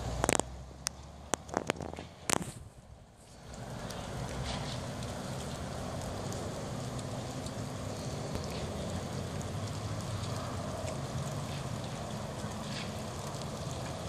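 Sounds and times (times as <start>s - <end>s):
light rain ticks: 0.0s - 14.0s.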